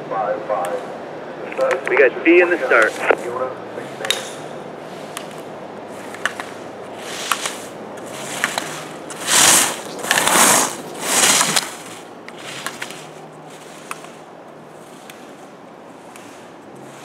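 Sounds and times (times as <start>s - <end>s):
skis scraping on snow: 2.3s - 17.0s.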